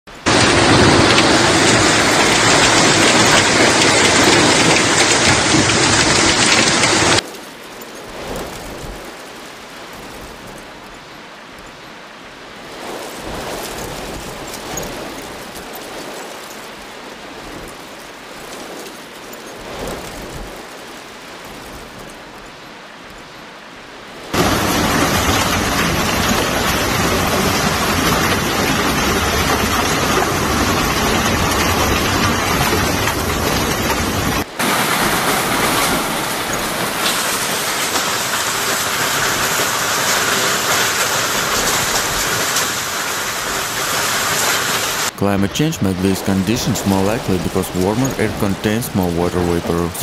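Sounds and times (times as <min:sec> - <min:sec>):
hail and heavy rain pelting: 0:00.1 - 0:50.0.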